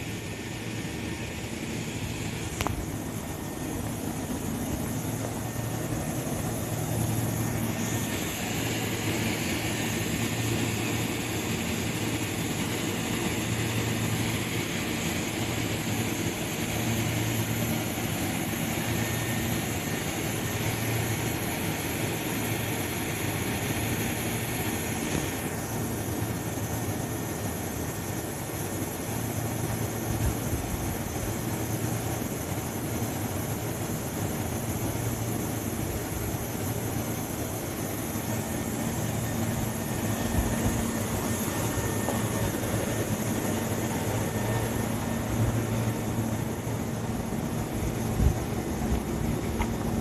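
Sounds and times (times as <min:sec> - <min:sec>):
electric train humming: 0:00.0 - 0:50.0
hiss: 0:00.0 - 0:50.0.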